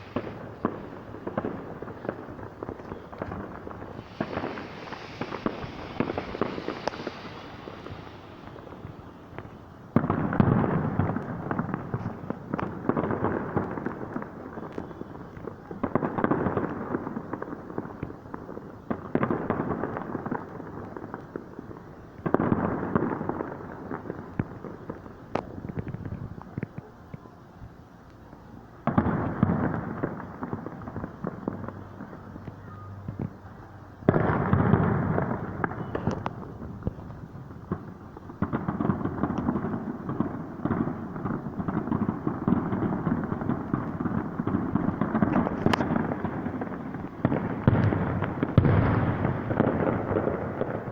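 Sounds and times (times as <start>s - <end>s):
fireworks booming and crackling: 0.0s - 50.9s.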